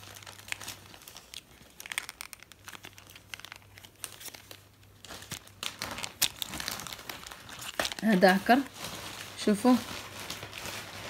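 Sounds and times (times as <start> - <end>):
packaging crinkling: 0.0 - 11.0
small clicks and crackles: 0.0 - 11.0.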